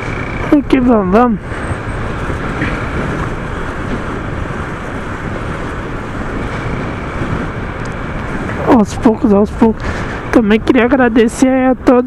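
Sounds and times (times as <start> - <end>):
motorcycle engine and road noise: 0.0 - 12.0
wind over microphone: 0.0 - 12.0.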